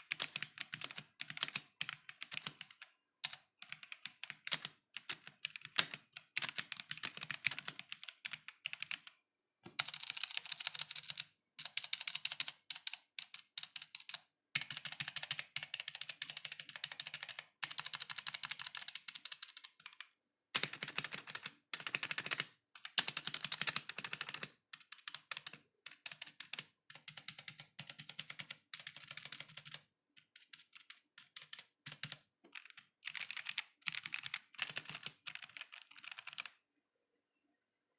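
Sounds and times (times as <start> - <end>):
mechanical keyboard typing: 0.0 - 36.6.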